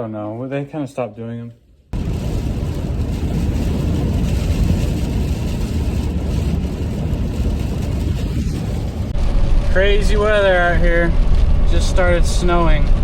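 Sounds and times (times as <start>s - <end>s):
car engine and road rumble: 1.9s - 13.0s.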